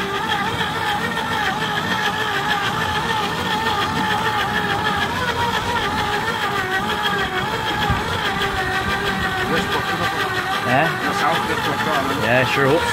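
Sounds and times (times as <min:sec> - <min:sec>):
fishing reel motor whining: 0:00.0 - 0:12.9.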